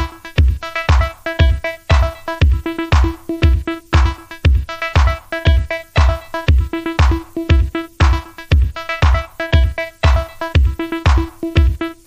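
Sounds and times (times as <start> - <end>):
electronic music: 0.0 - 12.0
kick drum beat: 0.0 - 12.0
repeating synth notes: 0.0 - 12.0.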